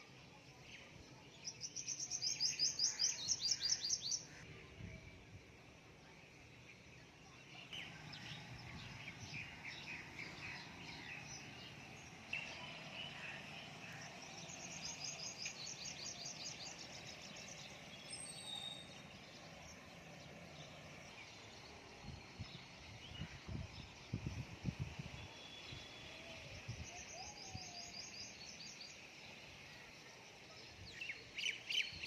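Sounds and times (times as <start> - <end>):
small birds chirping: 0.0 - 4.4, 6.6 - 32.0.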